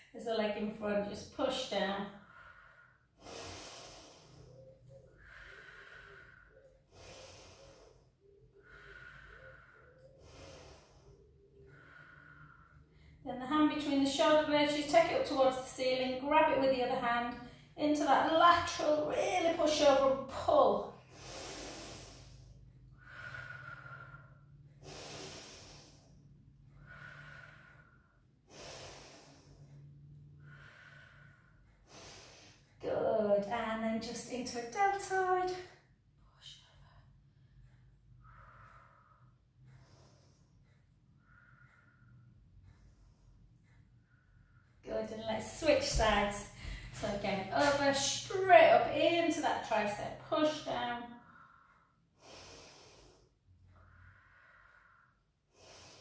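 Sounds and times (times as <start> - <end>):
woman breathing slowly: 0.8 - 56.0.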